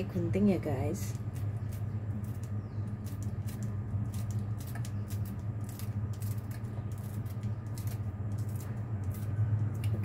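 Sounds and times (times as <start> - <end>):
steady low hum: 0.0 - 10.0
scissors snipping chilies: 1.0 - 10.0.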